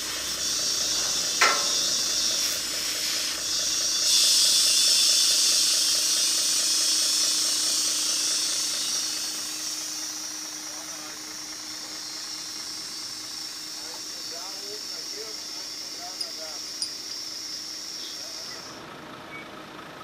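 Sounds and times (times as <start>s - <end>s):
steady loud hiss: 0.0s - 18.8s.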